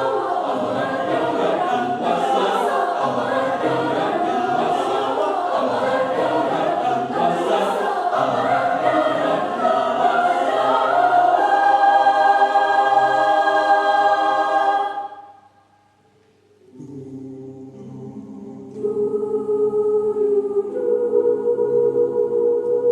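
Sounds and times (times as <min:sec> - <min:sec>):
choir singing: 0:00.0 - 0:15.5, 0:16.7 - 0:22.9.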